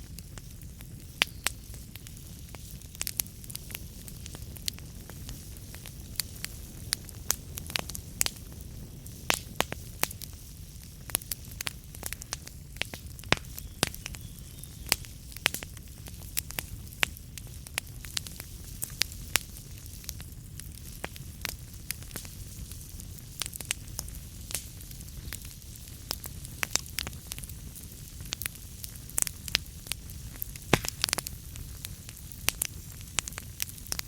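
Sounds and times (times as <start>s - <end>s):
low rumble of flames: 0.0s - 34.0s
wood fire crackling and popping: 0.0s - 34.0s.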